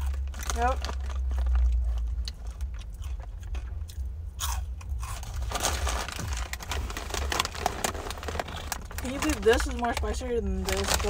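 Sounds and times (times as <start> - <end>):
person chewing crunchy chips: 0.0 - 10.0
low steady rumble: 0.0 - 11.0.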